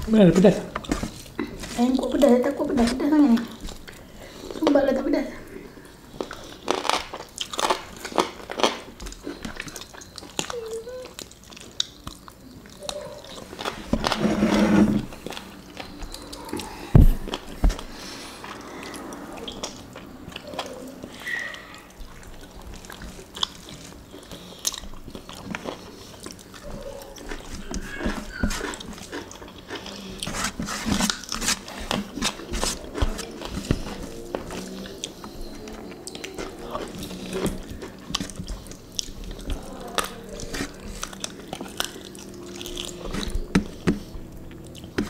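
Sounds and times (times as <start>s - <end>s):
chewing and wet mouth smacks: 6.2s - 13.8s, 15.2s - 30.3s, 31.0s - 45.0s.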